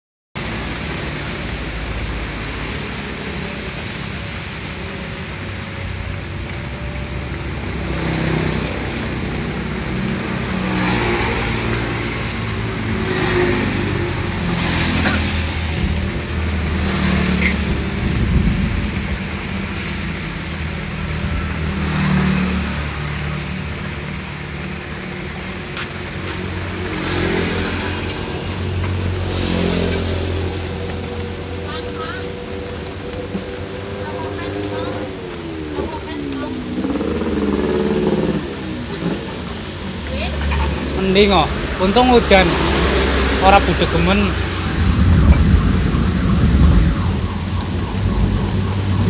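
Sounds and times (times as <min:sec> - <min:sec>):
tyre hiss on wet asphalt: 0:00.4 - 0:44.6
vehicles passing on wet road: 0:00.4 - 0:49.0.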